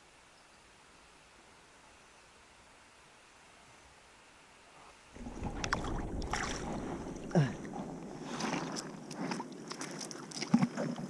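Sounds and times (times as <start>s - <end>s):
faint hiss: 0.0s - 9.6s.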